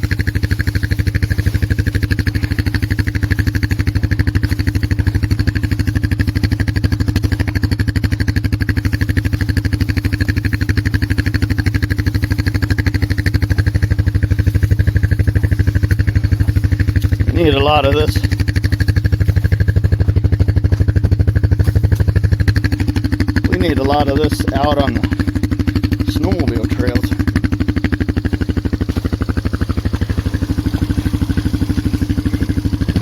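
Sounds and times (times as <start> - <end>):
quad bike engine running: 0.0 - 33.0.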